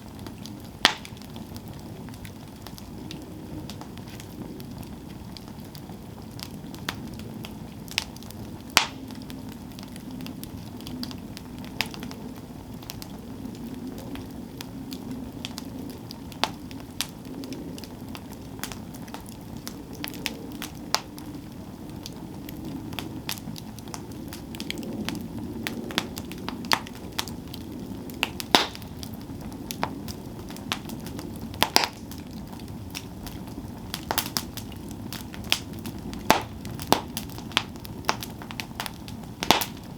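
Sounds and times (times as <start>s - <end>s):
burning wood popping and crackling: 0.0s - 39.9s
flames rushing: 0.0s - 39.9s.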